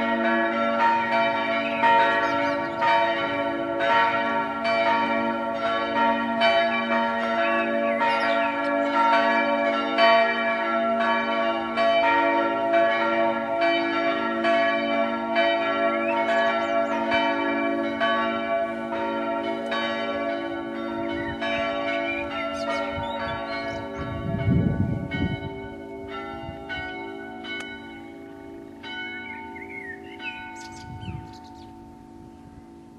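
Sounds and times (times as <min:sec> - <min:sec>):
church bells ringing: 0:00.0 - 0:32.9.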